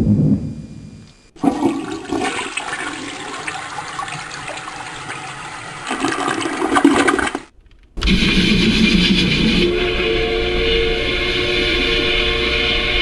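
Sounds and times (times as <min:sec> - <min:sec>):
toilet flushing: 0:01.4 - 0:13.0.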